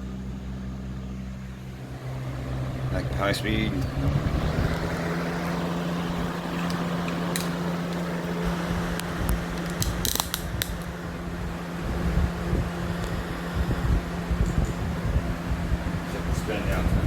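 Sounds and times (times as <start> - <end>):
box fan running: 0.0 - 17.0.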